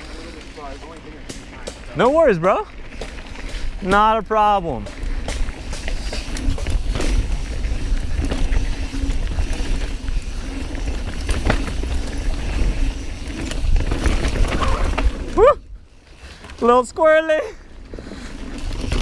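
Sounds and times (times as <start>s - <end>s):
bike rattling: 0.0s - 19.0s
tyres rolling over rough ground: 0.0s - 19.0s.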